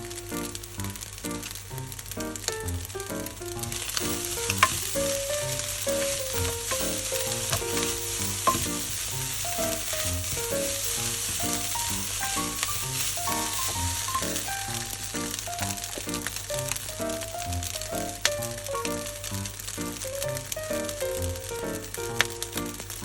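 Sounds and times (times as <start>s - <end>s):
background music: 0.0s - 23.0s
rice sizzling in a pan: 0.0s - 23.0s.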